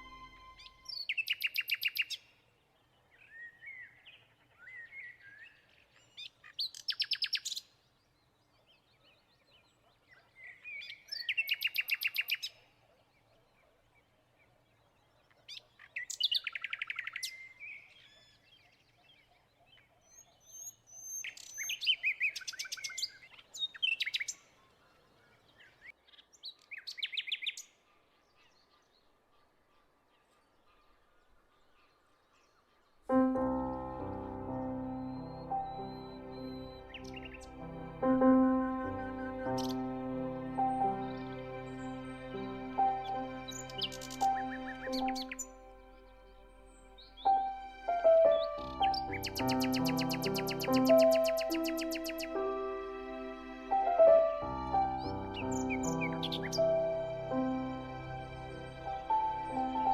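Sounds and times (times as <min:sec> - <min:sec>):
songbird singing: 0:00.0 - 0:28.8, 0:30.3 - 0:59.9.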